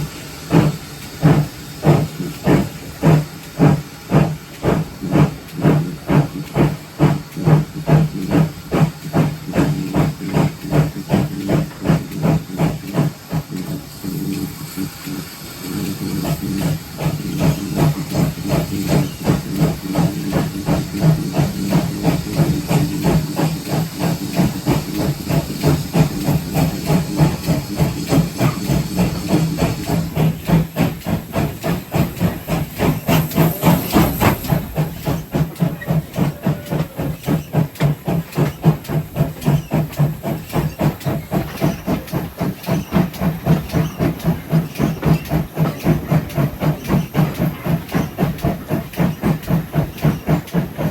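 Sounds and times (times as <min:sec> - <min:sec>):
steam hissing: 0:00.0 - 0:50.9
steam locomotive exhaust beats: 0:00.0 - 0:50.9.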